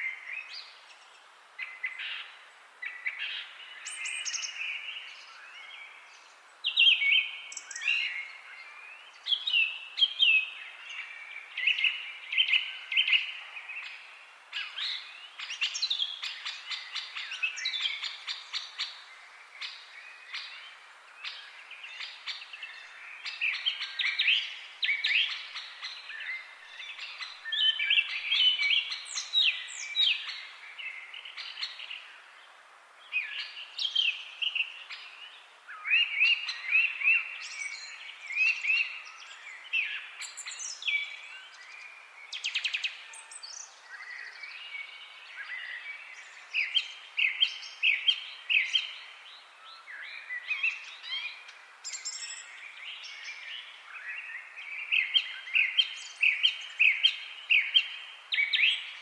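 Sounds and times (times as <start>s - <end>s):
faint steady hiss: 0.0s - 59.0s
songbirds chirping and singing: 0.0s - 59.0s.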